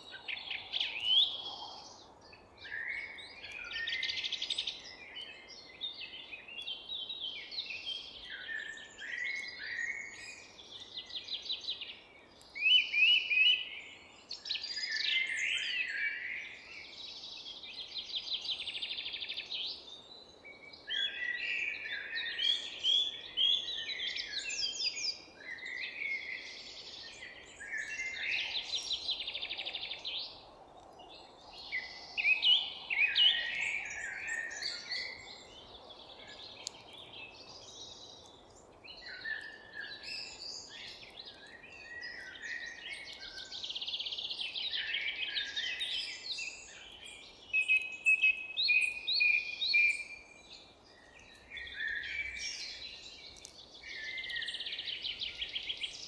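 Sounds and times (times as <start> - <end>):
faint background noise: 0.0 - 56.0
songbirds singing: 0.0 - 56.0.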